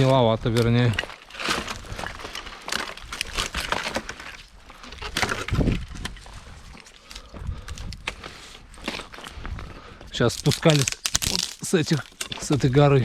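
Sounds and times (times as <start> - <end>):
rotten wood cracking: 0.0 - 13.0.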